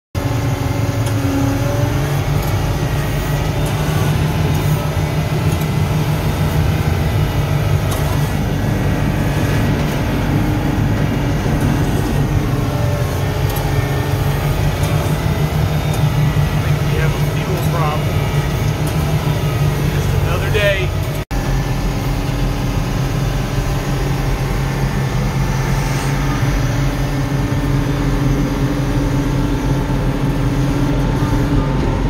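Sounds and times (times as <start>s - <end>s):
diesel engine low drone: 0.2s - 32.0s.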